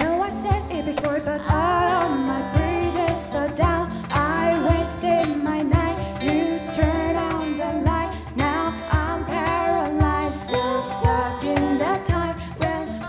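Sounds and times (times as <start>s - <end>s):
vocal ensemble singing harmonies: 1.4s - 13.0s.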